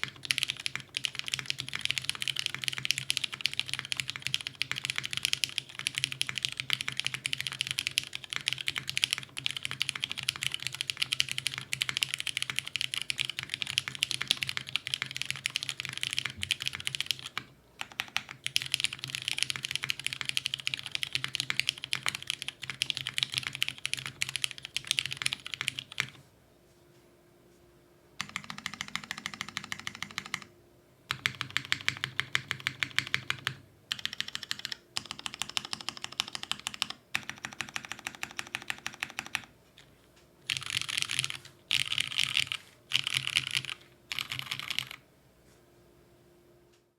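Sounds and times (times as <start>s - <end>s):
mechanical keyboard typing: 0.0s - 26.2s, 28.2s - 30.5s, 31.1s - 39.5s, 40.5s - 45.0s.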